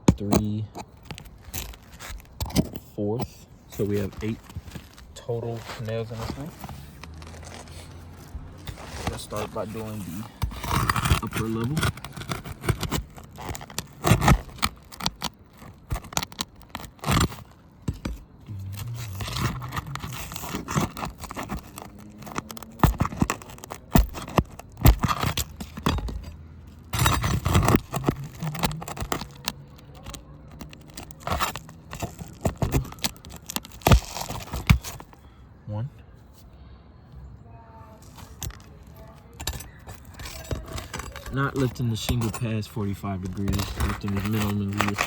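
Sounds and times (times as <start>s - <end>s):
metal tool scraping shingle: 0.0s - 35.2s, 38.0s - 45.0s.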